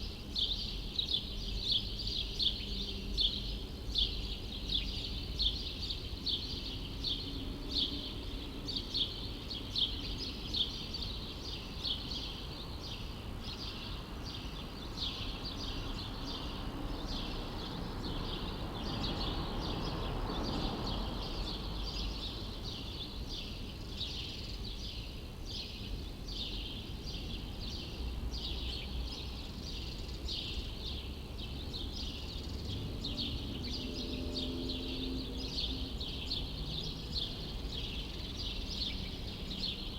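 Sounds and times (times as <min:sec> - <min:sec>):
low city rumble: 0:00.0 - 0:39.9
small birds chirping: 0:00.0 - 0:39.9.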